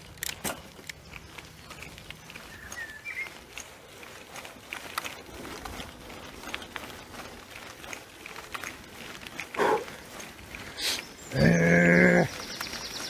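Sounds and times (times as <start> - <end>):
bicycle rattling on dirt path: 0.0 - 13.0.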